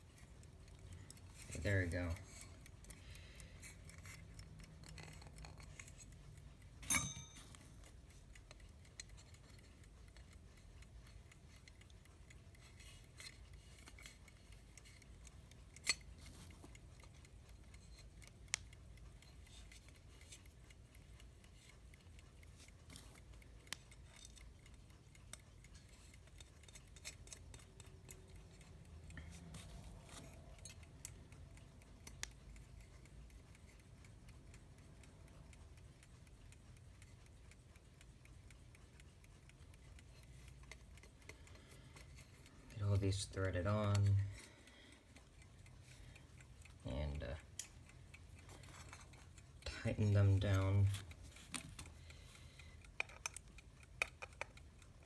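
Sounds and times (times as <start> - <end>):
small metal parts clicking: 0.0 - 34.2, 40.2 - 55.0.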